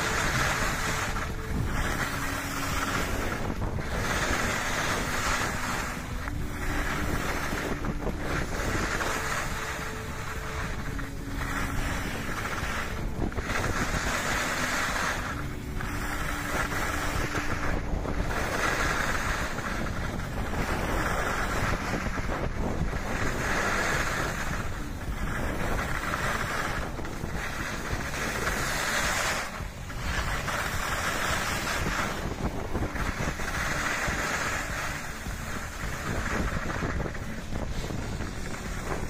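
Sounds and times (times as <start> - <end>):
skis scraping on hard snow: 0.0 - 39.0
wind rushing over microphone: 0.0 - 39.0.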